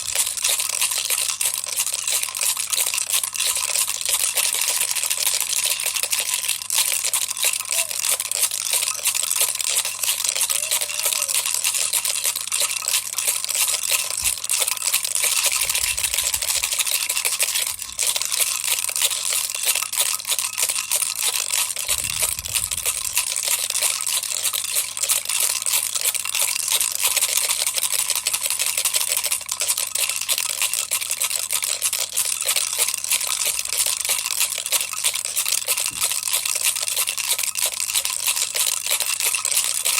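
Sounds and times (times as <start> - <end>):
toy rattle shaken: 0.0 - 39.9.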